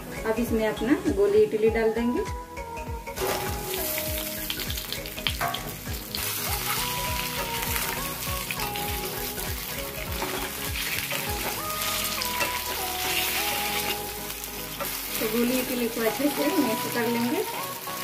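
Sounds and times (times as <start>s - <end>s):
background music with steady beat: 0.0s - 18.0s
food sizzling in hot oil: 3.1s - 18.0s.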